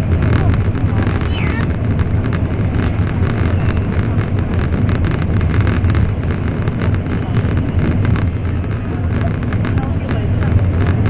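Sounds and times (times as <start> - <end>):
train rumbling inside passenger car: 0.0 - 11.0.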